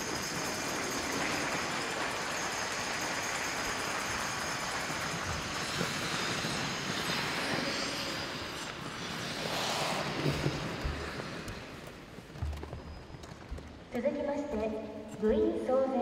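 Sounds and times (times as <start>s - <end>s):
skate blades scraping ice: 0.0s - 13.2s.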